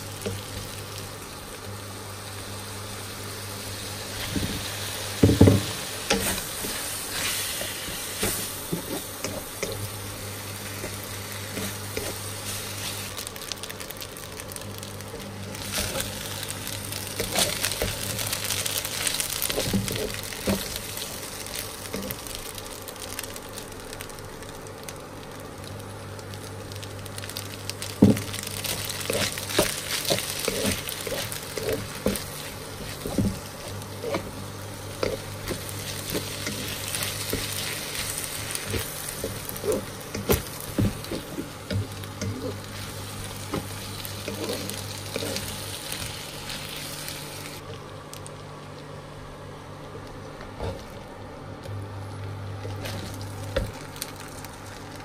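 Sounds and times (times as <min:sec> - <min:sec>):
food sizzling in a hot pan: 0:00.0 - 0:47.6
steady low hum: 0:00.0 - 0:55.0.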